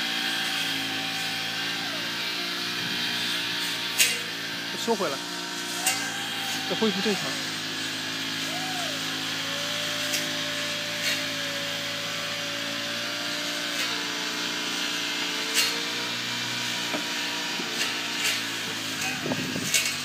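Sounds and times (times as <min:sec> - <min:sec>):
hydraulic pump motor whine: 0:00.0 - 0:20.0.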